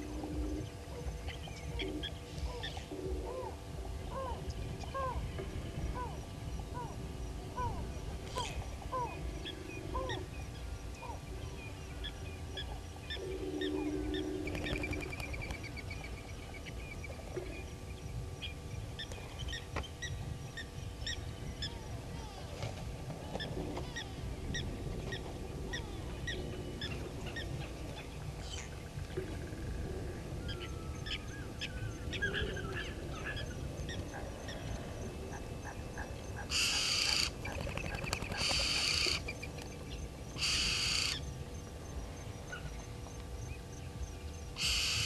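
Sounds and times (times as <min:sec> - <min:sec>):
low drawn-out bird calls: 0:00.0 - 0:22.5, 0:23.2 - 0:45.0.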